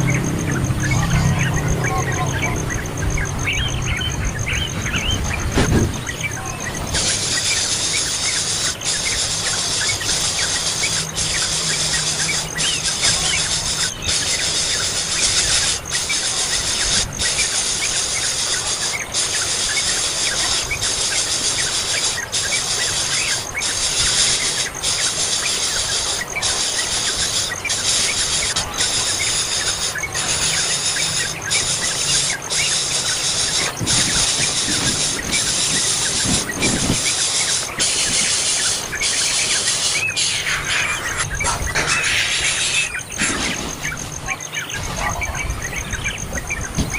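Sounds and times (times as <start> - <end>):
high-pitched hiss: 0.0 - 46.9
young birds cheeping: 0.0 - 46.9.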